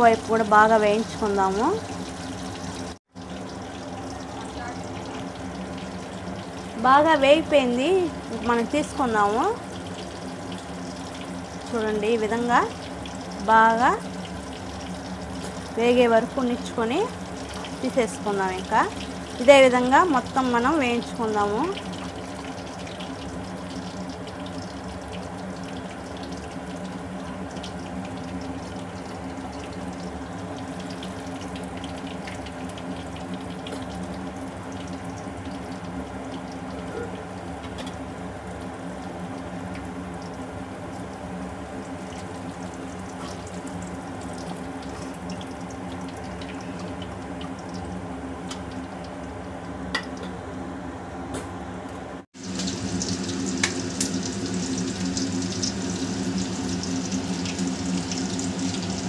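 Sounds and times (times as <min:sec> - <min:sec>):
food deep-frying in oil: 0:00.0 - 0:50.7, 0:52.4 - 0:59.0.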